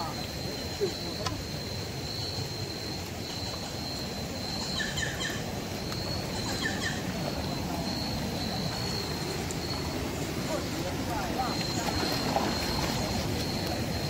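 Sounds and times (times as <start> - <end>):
bird chirps: 0.0 - 14.0
high insect drone: 0.0 - 14.0.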